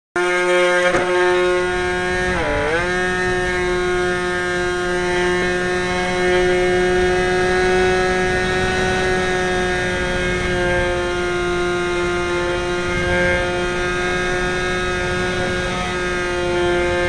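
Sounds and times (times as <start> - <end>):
electric motor and propeller whining: 0.2 - 17.0.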